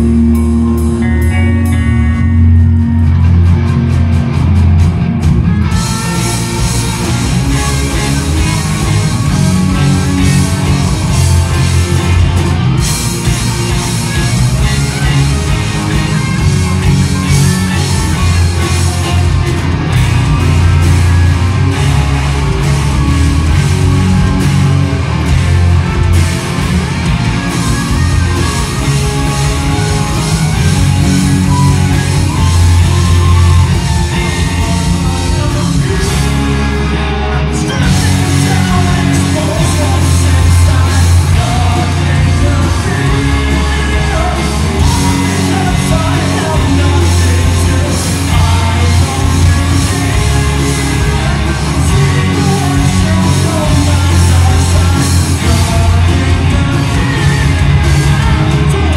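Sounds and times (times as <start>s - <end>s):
drum kit: 0.0s - 58.9s
electric guitars: 0.0s - 58.9s.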